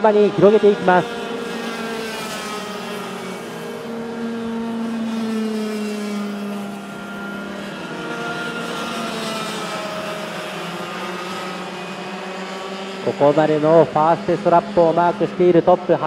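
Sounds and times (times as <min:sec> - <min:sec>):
kart engines buzzing past: 0:00.0 - 0:16.0.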